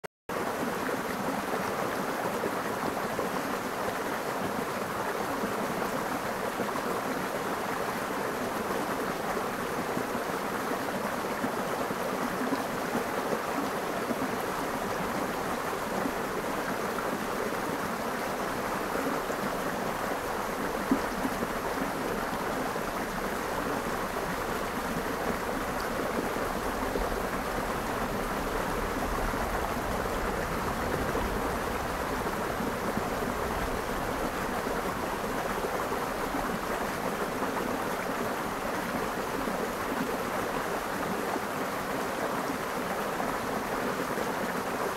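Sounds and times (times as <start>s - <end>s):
creek water rushing over stones: 0.3s - 44.9s.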